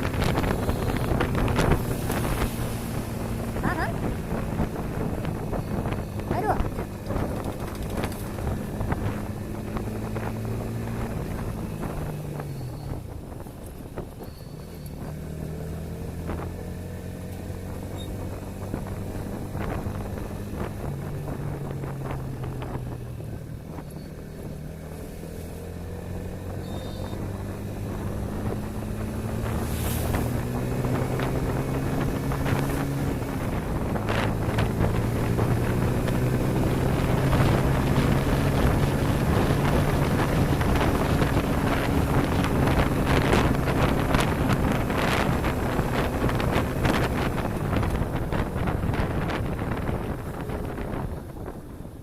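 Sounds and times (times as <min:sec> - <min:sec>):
motorcycle engine running: 0:00.0 - 0:52.0
wind buffeting microphone: 0:00.0 - 0:52.0.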